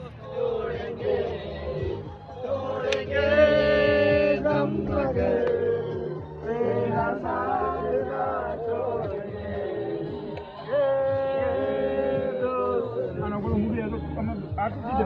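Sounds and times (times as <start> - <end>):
musical accompaniment: 0.0 - 15.0.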